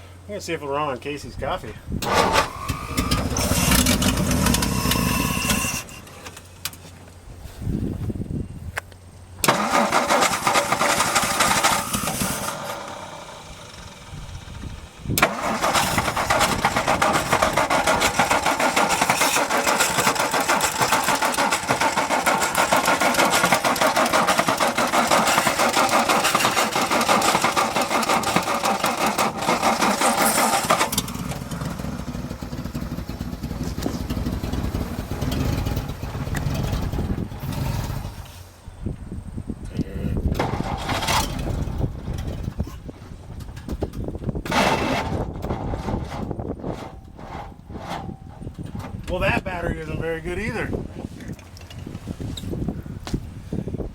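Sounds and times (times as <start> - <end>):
truck engine running: 1.9 - 39.4, 40.2 - 53.8
engine cranking on starter: 2.0 - 6.8, 9.4 - 38.6, 40.2 - 50.8.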